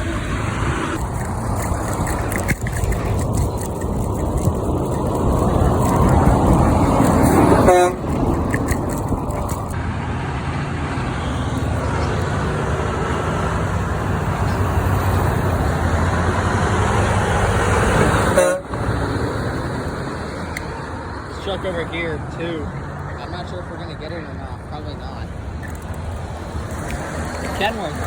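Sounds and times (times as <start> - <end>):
heavy trucks driving past: 0.0 - 28.0
steady traffic noise: 0.0 - 28.0.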